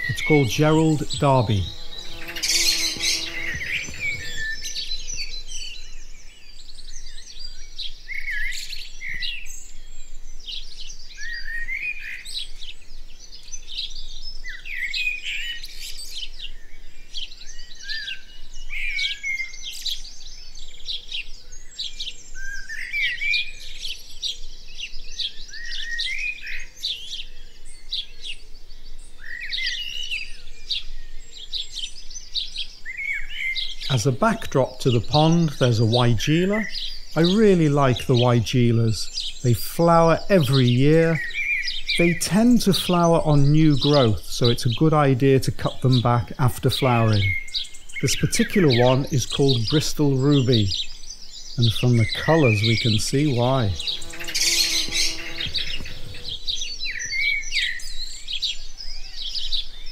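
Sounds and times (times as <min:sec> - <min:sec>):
small birds singing and chirping: 0:00.0 - 0:59.9.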